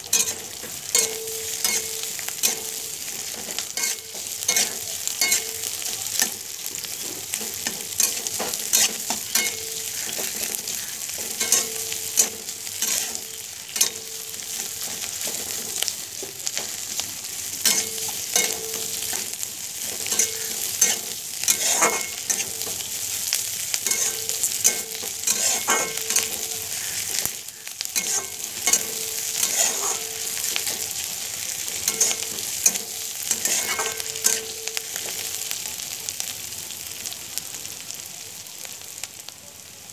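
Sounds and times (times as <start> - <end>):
metal spatula scraping a pan: 0.0 - 35.4
onions sizzling in a pan: 0.0 - 39.9.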